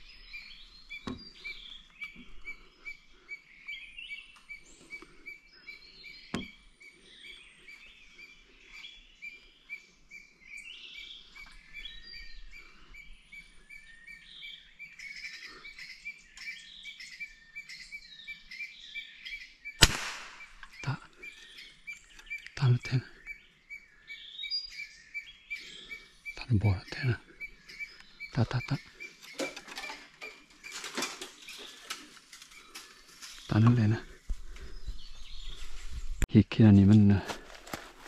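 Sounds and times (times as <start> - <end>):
birds chirping and calling: 0.0 - 38.0.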